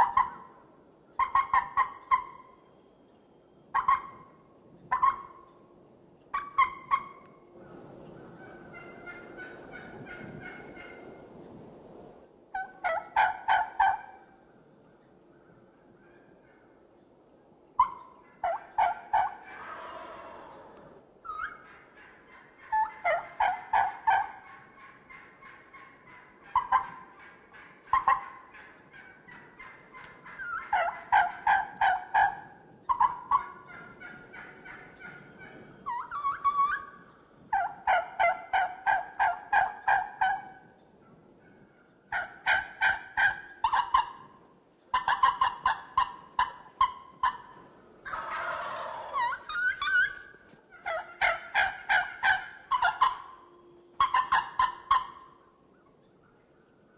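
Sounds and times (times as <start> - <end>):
turkey gobbling: 0.0 - 2.7, 3.7 - 5.6, 6.3 - 7.4, 8.1 - 11.2, 12.5 - 14.3, 17.8 - 40.8, 41.4 - 55.5.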